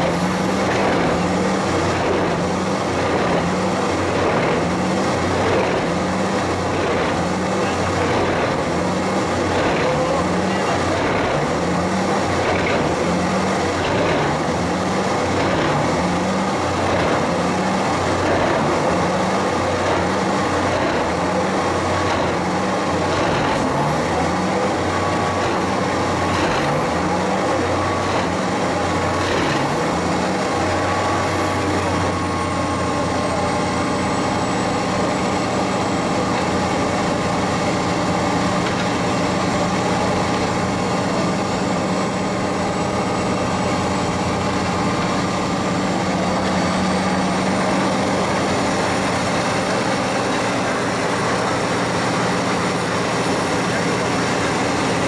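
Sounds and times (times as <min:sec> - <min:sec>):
wood chipper running: 0:00.0 - 0:55.0.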